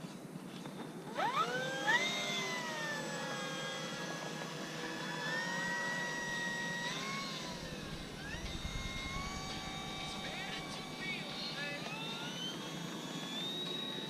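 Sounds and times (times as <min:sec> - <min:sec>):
model plane motor whining: 0:00.5 - 0:14.0.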